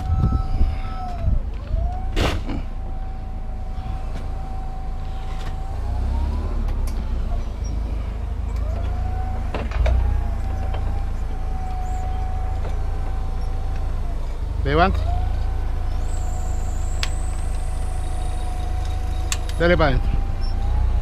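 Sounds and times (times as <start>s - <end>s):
forklift whine: 0.0s - 21.0s
low engine rumble: 0.0s - 21.0s.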